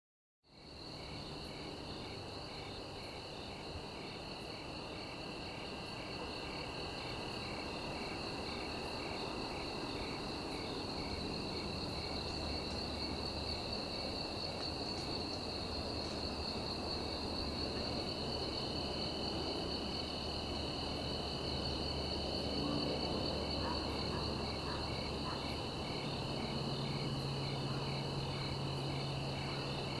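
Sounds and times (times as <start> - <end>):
insects trilling: 0.6 - 30.0
pulsing insect call: 0.6 - 30.0.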